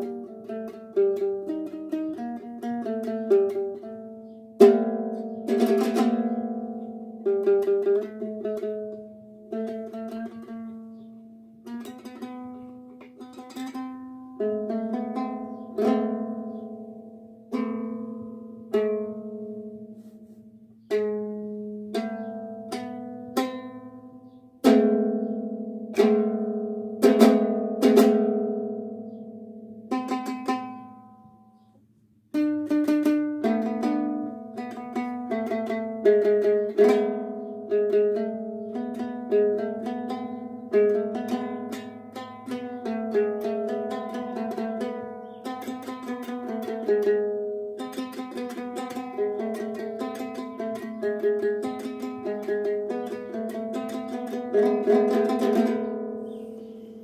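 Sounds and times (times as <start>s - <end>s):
ukulele plucked and strummed: 0.0s - 31.7s, 32.3s - 57.0s.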